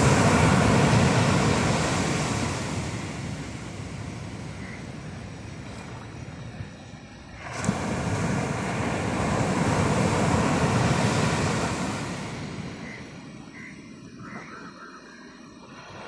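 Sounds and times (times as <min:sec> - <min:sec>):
sea waves breaking: 0:00.0 - 0:14.7.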